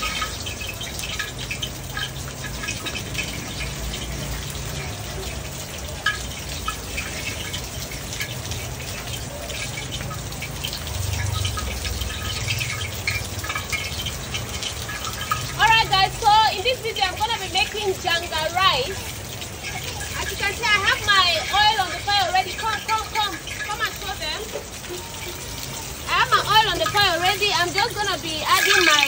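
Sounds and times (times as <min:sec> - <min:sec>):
close drips ticking: 0:00.0 - 0:29.0
steady rain falling: 0:00.0 - 0:29.0.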